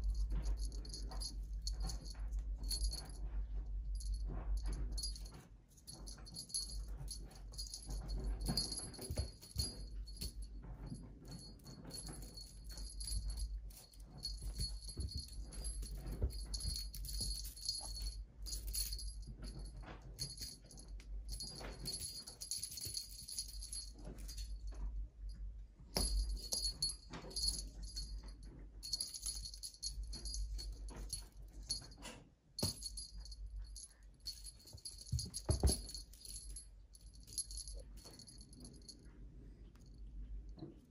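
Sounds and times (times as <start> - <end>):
small bell jingling: 0.0 - 24.9, 25.8 - 39.1
low steady hum: 0.0 - 40.9.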